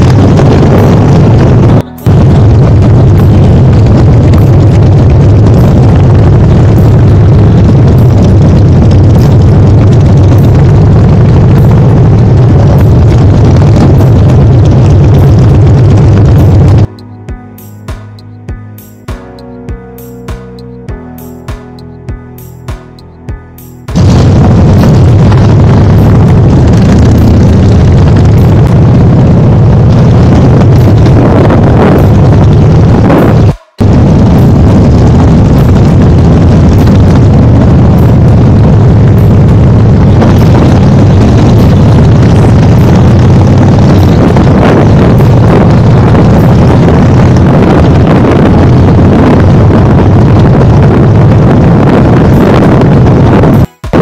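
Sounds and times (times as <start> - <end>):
motorcycle engine running loudly: 0.0 - 16.9, 23.9 - 54.0
wind noise on microphone: 0.0 - 17.0, 23.8 - 54.0.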